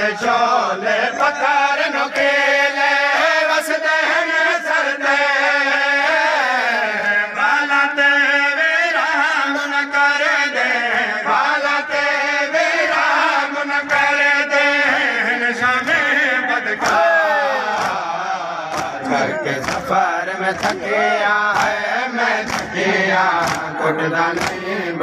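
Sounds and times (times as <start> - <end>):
men chanting in chorus: 0.0 - 25.0.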